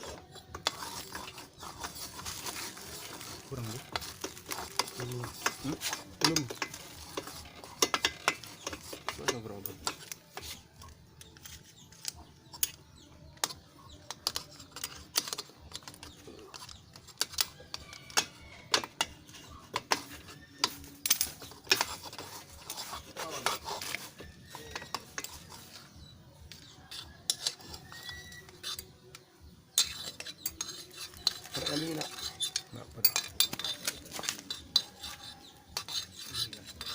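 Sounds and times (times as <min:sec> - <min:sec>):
hand tools clinking on metal: 0:00.0 - 0:12.8, 0:13.4 - 0:25.9, 0:26.5 - 0:29.2, 0:29.8 - 0:36.9.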